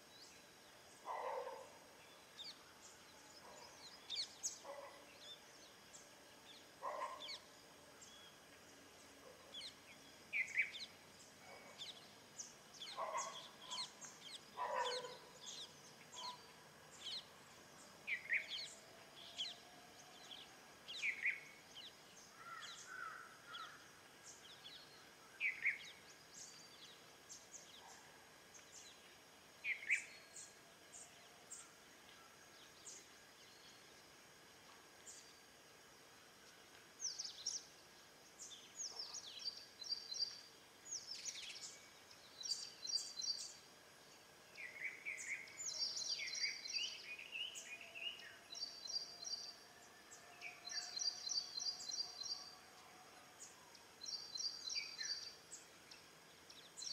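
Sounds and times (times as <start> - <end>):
small birds chirping: 0.0 - 34.0, 36.4 - 49.6, 50.4 - 56.9.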